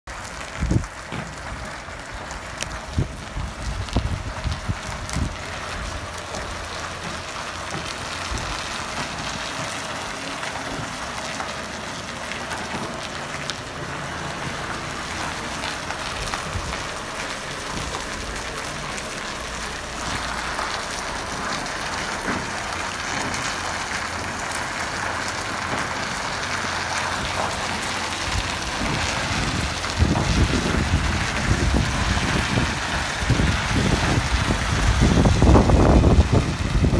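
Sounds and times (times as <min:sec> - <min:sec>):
diesel truck engine rumble: 0:00.1 - 0:36.9.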